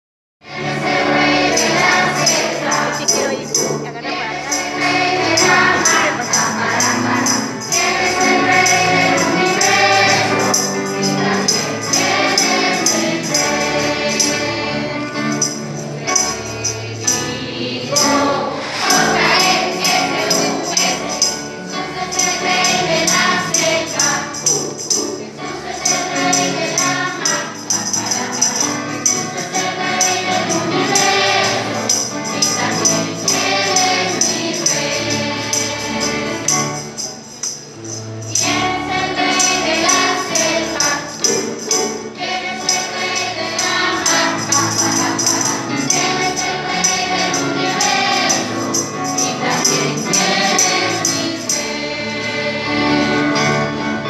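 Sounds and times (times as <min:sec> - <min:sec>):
music with jingling beat: 0:00.5 - 0:53.1
children singing worship song: 0:00.5 - 0:53.7.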